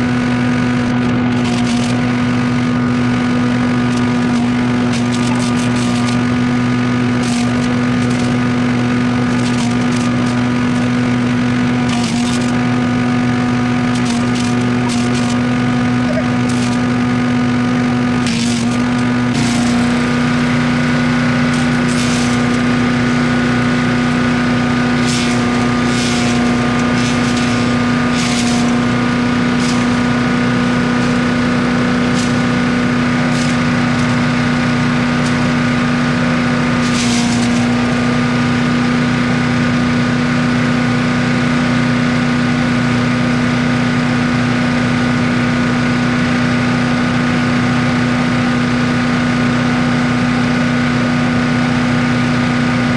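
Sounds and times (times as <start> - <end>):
wood chipper engine running: 0.0 - 52.9.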